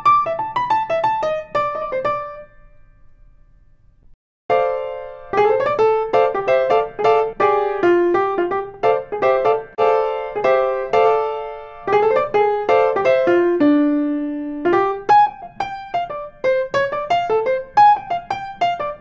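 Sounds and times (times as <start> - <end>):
piano-like keyboard melody: 0.0 - 3.2, 4.5 - 19.0.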